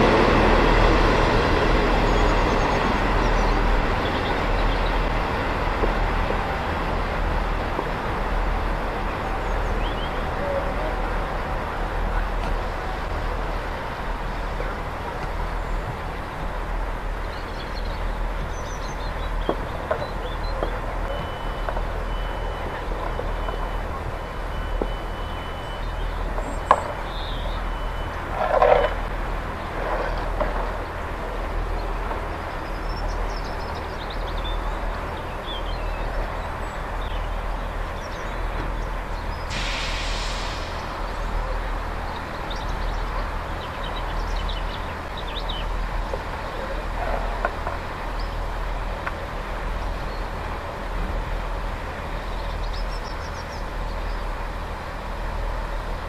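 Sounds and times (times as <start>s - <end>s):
diesel train engine idling: 0.0s - 56.0s
birds chirping: 1.2s - 39.6s, 40.3s - 50.5s, 51.1s - 56.0s.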